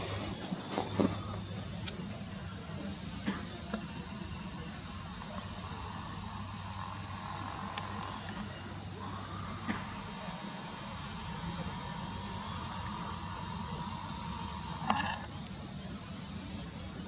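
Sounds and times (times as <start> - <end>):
distant engine hum: 0.0 - 17.0
faint high whine: 0.0 - 17.0.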